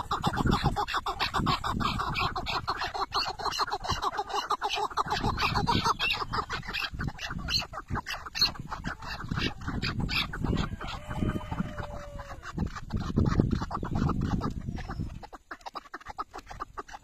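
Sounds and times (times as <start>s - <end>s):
partridge clucking calls: 0.0s - 17.0s.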